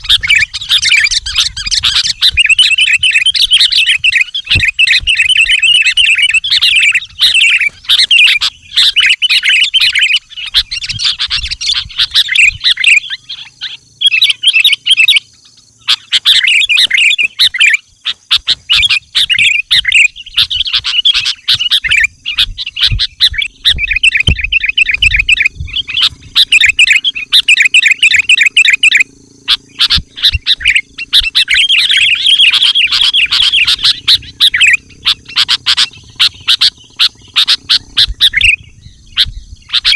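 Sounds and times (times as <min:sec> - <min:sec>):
bulbul singing in chattering phrases: 0:00.0 - 0:39.9.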